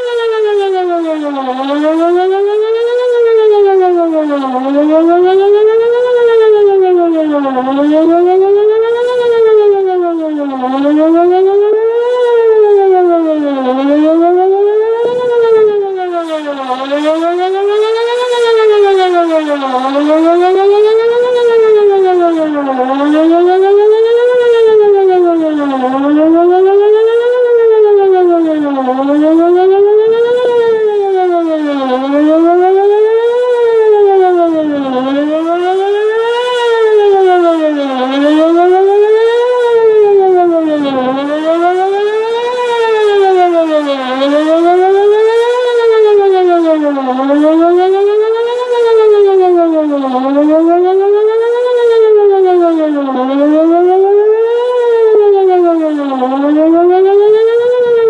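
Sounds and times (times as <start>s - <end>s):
warning siren sweeping tone: 0.0s - 58.0s.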